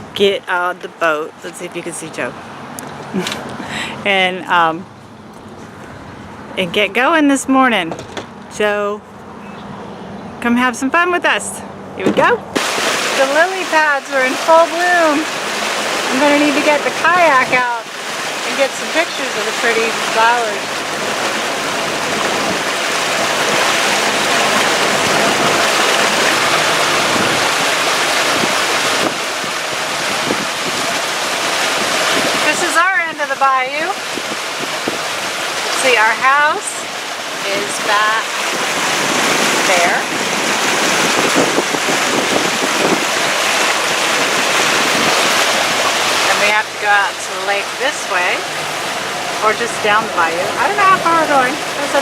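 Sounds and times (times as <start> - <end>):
motorboat water rushing: 0.0 - 52.0
wind: 0.0 - 52.0.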